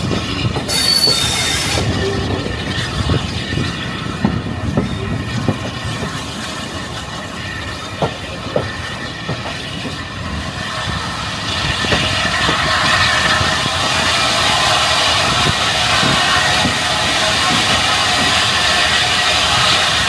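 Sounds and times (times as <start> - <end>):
railway carriages rolling: 0.0 - 20.0
wheels clacking over rail joints: 0.0 - 20.0.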